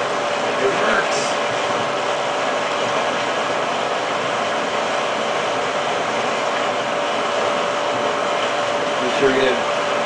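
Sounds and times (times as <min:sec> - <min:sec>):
electric pump motor whirring: 0:00.0 - 0:10.0.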